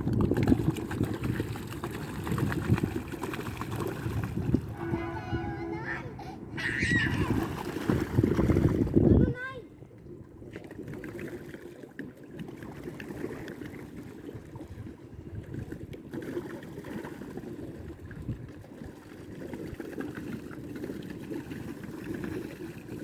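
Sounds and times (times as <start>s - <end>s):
water churning and splashing: 0.0s - 23.0s.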